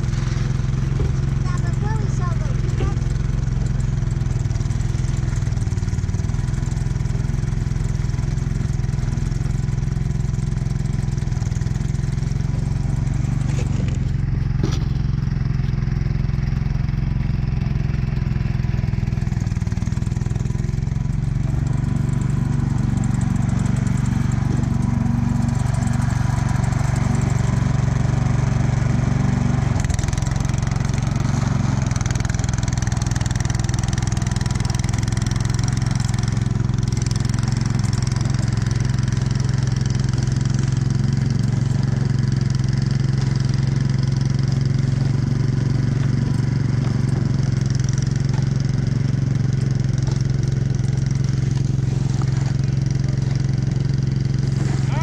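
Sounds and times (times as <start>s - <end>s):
snowblower engine running: 0.0s - 55.0s.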